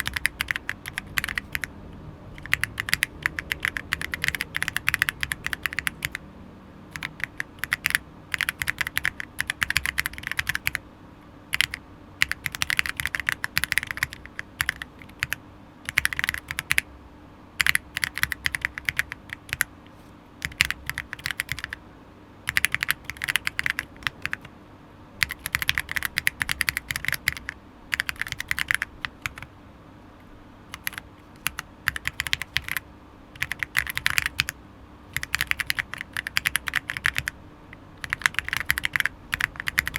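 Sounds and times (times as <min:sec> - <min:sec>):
fast keyboard typing: 0:00.0 - 0:01.7, 0:02.3 - 0:06.2, 0:06.9 - 0:10.8, 0:11.5 - 0:16.9, 0:17.6 - 0:19.7, 0:20.4 - 0:21.8, 0:22.5 - 0:24.5, 0:25.2 - 0:29.5, 0:30.7 - 0:32.8, 0:33.4 - 0:37.4, 0:38.0 - 0:39.9.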